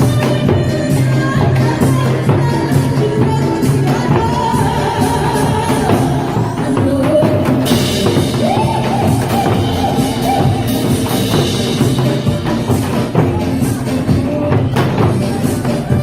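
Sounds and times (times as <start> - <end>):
drum-kit beat: 0.0 - 16.0
sliding melody line: 0.0 - 16.0.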